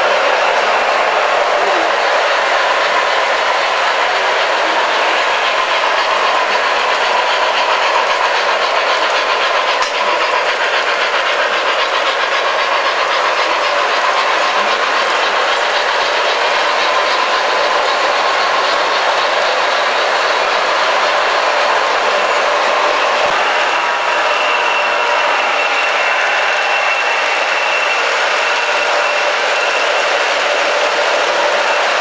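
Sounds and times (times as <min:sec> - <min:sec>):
model trains whirring and rattling: 0:00.0 - 0:32.0.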